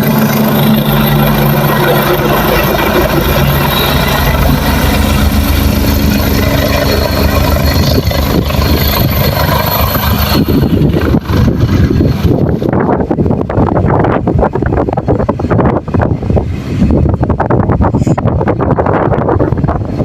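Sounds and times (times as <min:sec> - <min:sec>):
helicopter engine and rotor drone: 0:00.0 - 0:20.0
wind buffeting microphone: 0:00.0 - 0:20.0.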